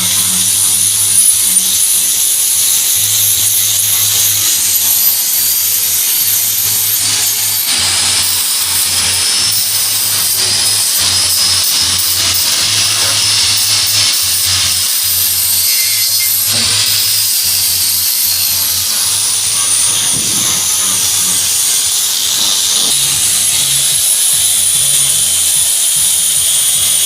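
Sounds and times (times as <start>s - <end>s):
power tool running: 0.0s - 27.0s.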